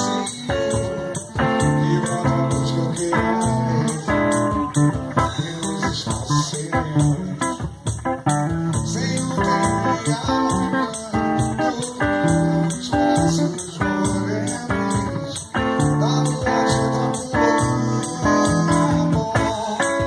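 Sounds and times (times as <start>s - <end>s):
cajon beaten with drum rods: 0.0s - 20.0s
electric guitar melody: 0.0s - 20.0s.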